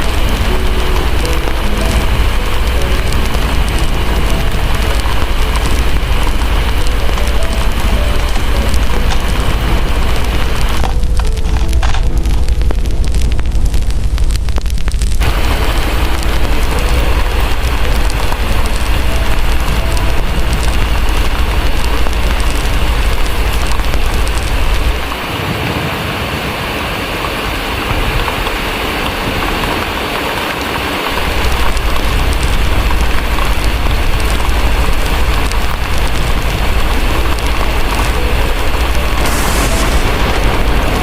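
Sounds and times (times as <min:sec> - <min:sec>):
deep low rumble: 0:00.0 - 0:25.2, 0:31.2 - 0:41.0
fireplace crackling: 0:00.0 - 0:25.6, 0:27.8 - 0:41.0
heavy rain: 0:00.0 - 0:41.0.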